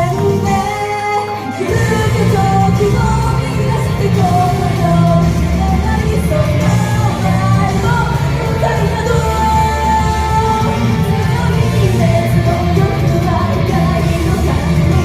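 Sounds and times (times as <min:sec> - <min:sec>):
person singing: 0:00.0 - 0:15.0
pop song over sound system: 0:00.0 - 0:15.0
heavy bass beat: 0:01.7 - 0:15.0.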